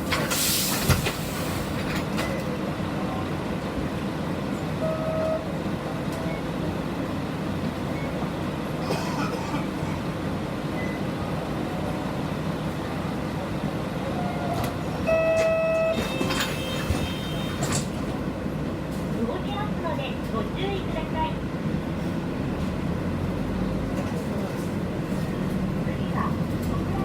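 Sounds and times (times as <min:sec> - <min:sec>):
bus engine and road hum: 0:00.0 - 0:27.0.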